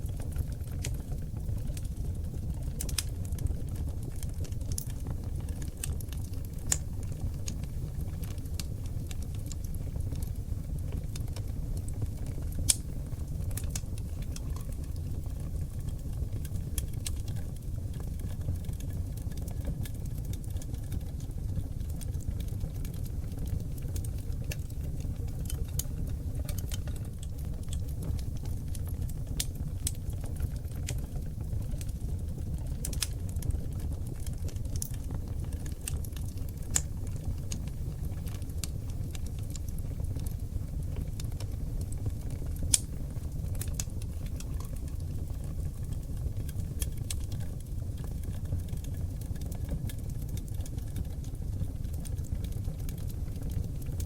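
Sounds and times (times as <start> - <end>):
fire crackles and pops: 0.0 - 54.0
fire flames rumbling: 0.0 - 54.0.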